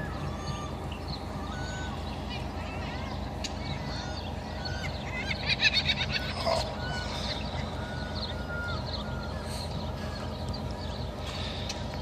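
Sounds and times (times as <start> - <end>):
rapid chattering bird calls: 0.0 - 12.0
whistled bird notes: 0.0 - 12.0.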